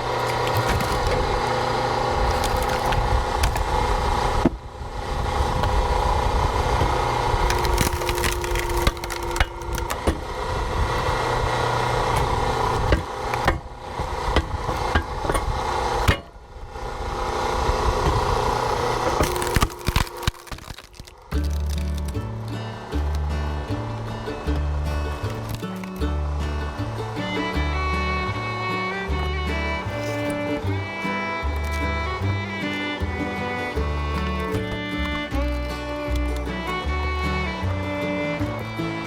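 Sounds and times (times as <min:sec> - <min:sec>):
engine running: 0:00.0 - 0:39.0.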